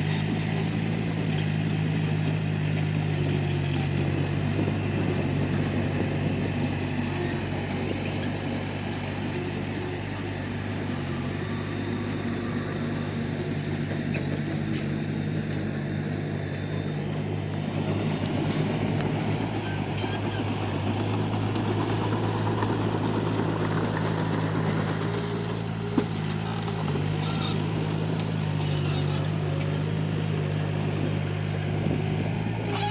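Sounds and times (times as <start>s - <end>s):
bulldozer diesel engine running: 0.0s - 32.9s.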